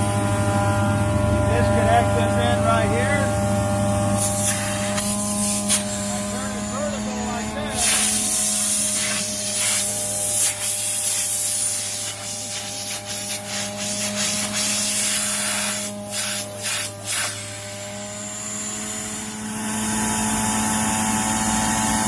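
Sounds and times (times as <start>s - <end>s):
air rushing through vacuum filter: 0.0s - 22.0s
vacuum machine humming: 0.0s - 22.0s.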